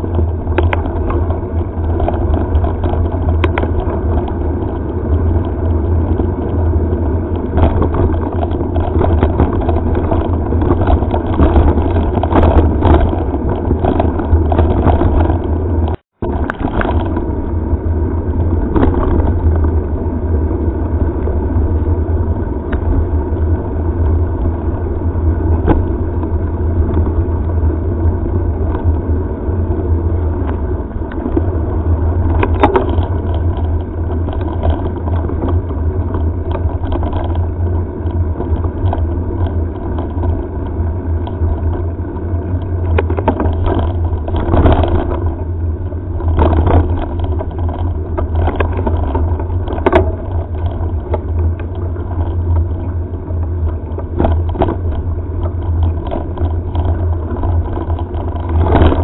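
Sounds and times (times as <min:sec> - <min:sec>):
tyres rolling over gravel: 0:00.0 - 0:59.0
wind on microphone: 0:00.0 - 0:59.0.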